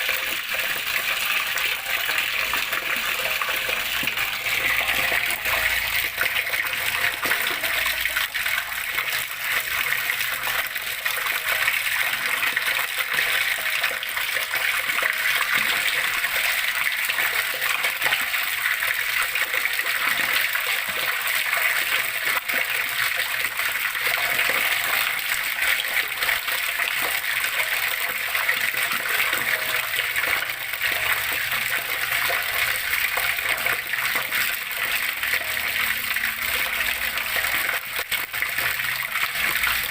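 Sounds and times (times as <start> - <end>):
water flowing and splashing: 0.0 - 39.9.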